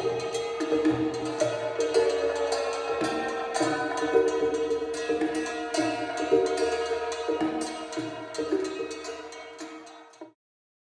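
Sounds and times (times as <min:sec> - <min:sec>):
knocked pitched wooden pipe notes: 0:00.0 - 0:10.3.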